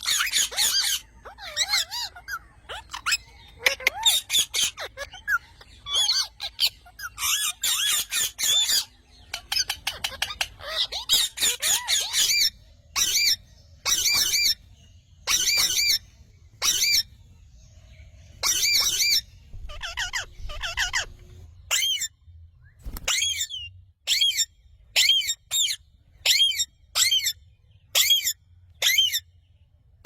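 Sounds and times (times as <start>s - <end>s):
parrot screeching: 0.0s - 14.6s, 15.2s - 16.0s, 16.6s - 17.1s, 18.4s - 22.1s, 23.1s - 29.2s.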